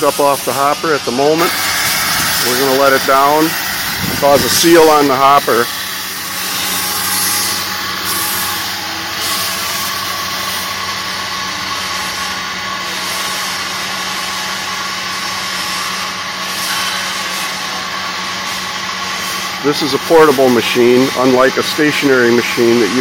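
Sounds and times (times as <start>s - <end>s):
steady machine hum with hiss: 0.0s - 23.0s.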